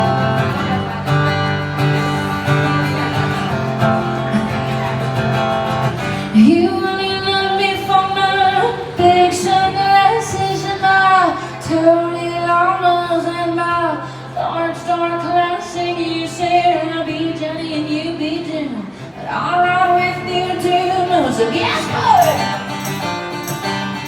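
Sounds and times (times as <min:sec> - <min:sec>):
guitar playing: 0:00.0 - 0:24.0.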